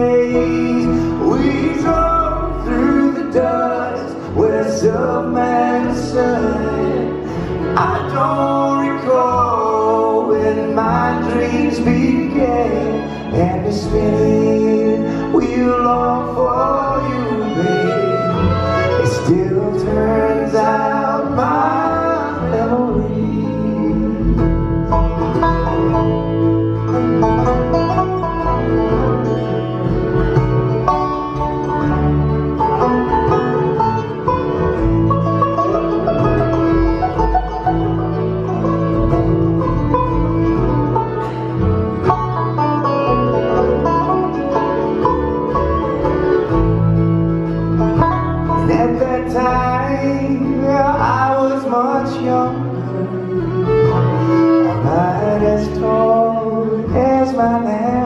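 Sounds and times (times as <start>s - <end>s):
acoustic guitar: 0.0s - 58.0s
banjo: 0.0s - 58.0s
dobro: 0.0s - 58.0s
fiddle: 0.0s - 58.0s
upright bass: 0.0s - 58.0s.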